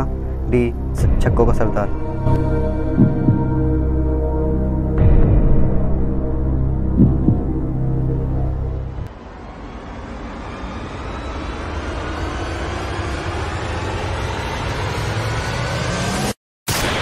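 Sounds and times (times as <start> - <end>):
rushing noise rising in pitch: 0.0 - 17.0
suspense music: 0.0 - 17.0.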